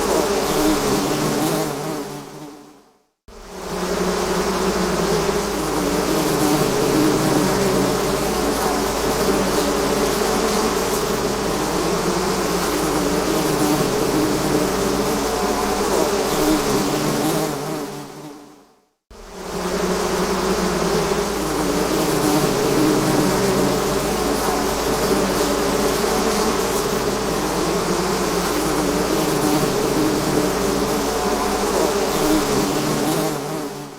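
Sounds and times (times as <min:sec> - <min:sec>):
bees buzzing: 0:03.3 - 0:18.2, 0:19.2 - 0:33.9.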